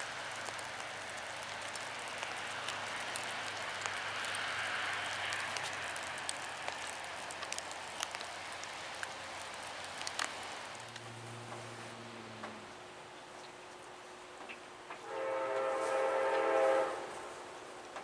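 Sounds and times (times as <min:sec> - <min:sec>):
wet snow falling hiss: 0:00.0 - 0:12.9, 0:15.0 - 0:18.0
light ticks of flakes and drips: 0:00.0 - 0:18.0.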